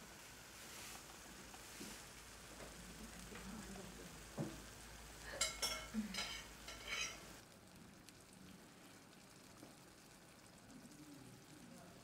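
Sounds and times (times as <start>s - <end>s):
omelette sizzling in a pan: 0.0s - 12.0s.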